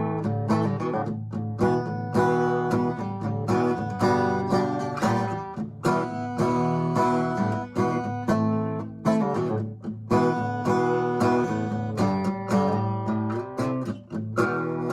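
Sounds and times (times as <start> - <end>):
acoustic guitar strumming chords: 0.0 - 14.9.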